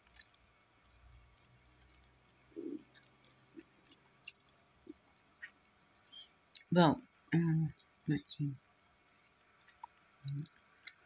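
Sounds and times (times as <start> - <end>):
faint low hum: 0.0 - 11.0
small scattered clicks: 0.0 - 11.0.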